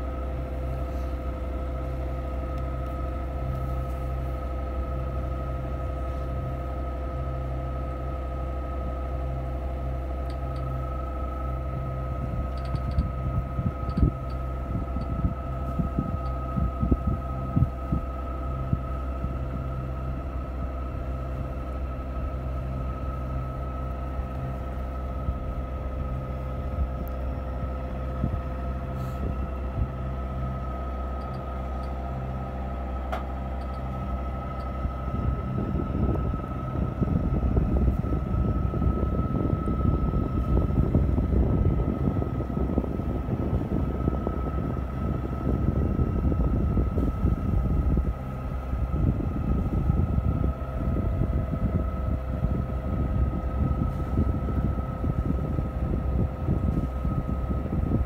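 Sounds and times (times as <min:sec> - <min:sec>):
boat engine droning: 0:00.0 - 0:58.0
high steady whine: 0:00.0 - 0:58.0
wind rumbling on microphone: 0:00.0 - 0:58.0.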